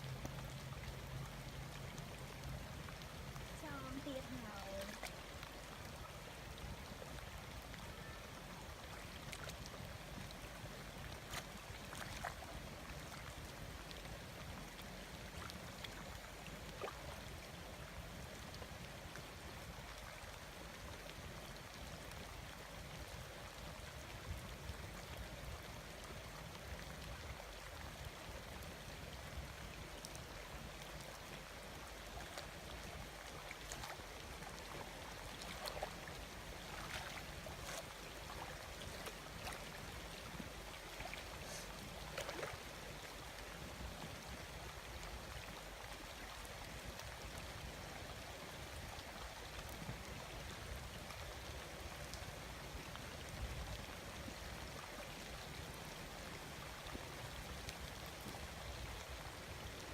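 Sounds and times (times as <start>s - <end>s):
water trickling and sloshing: 0.0s - 59.9s.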